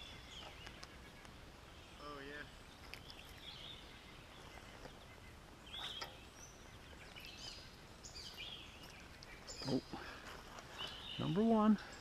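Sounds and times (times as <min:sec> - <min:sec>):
bird chirps: 0:00.0 - 0:12.0
faint outdoor ambience: 0:00.0 - 0:12.0.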